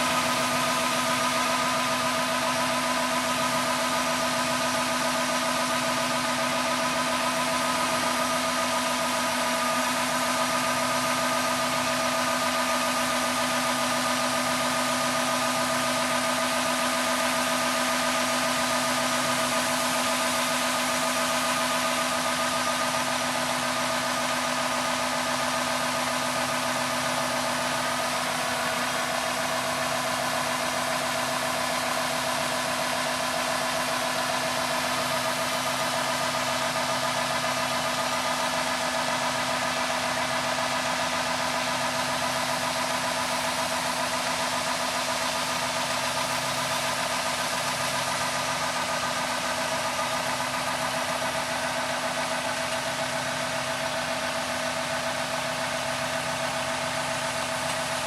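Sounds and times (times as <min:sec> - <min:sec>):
farm machinery engine droning: 0:00.0 - 0:58.0.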